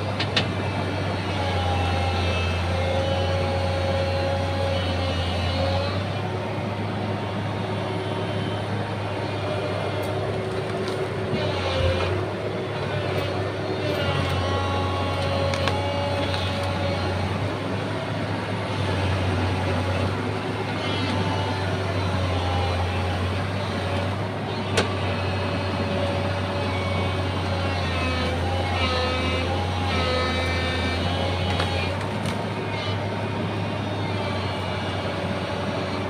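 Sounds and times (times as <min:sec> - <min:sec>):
diesel engine under load: 0:00.0 - 0:36.0
hydraulic whine: 0:00.0 - 0:36.0.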